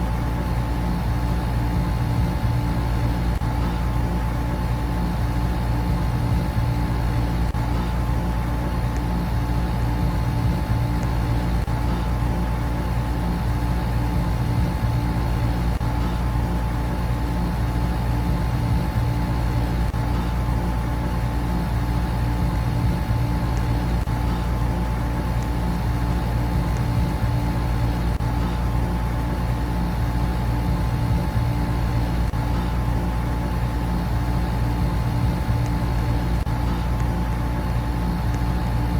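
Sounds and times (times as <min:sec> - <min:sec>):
air conditioner and fans humming: 0:00.0 - 0:38.9
faint constant whine: 0:00.0 - 0:38.9.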